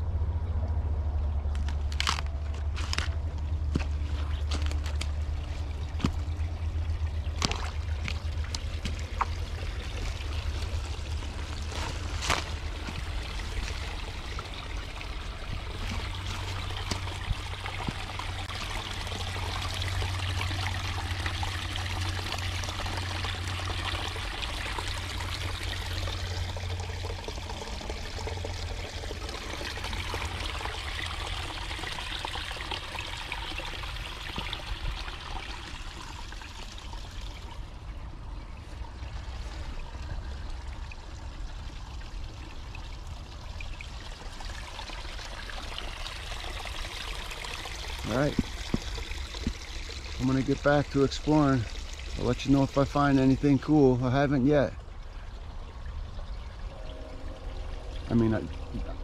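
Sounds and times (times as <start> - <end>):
creek water trickling: 0.0 - 59.0
low steady rumble: 0.0 - 59.0.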